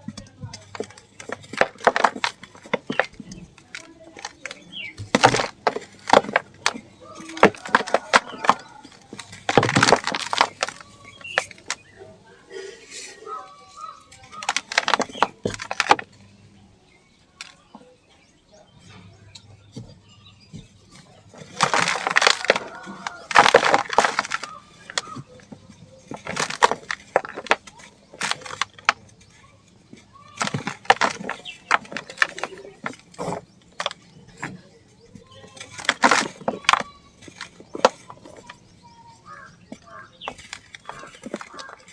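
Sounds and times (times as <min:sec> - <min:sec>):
cement clumps cracking and crumbling: 0:00.0 - 0:18.2, 0:18.8 - 0:41.9.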